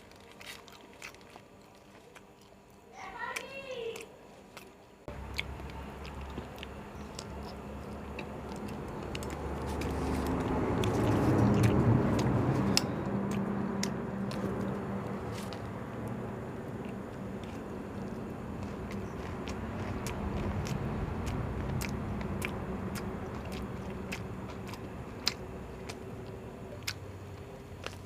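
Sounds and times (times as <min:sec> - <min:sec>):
chewing and biting food: 0:00.0 - 0:28.0
low rumbling noise: 0:05.0 - 0:28.0.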